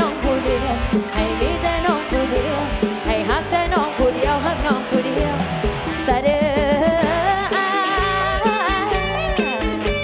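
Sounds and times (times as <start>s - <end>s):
bass: 0.0s - 10.0s
live band music: 0.0s - 10.0s
regular drum beat: 0.0s - 10.0s
sliding lead melody: 0.0s - 10.0s.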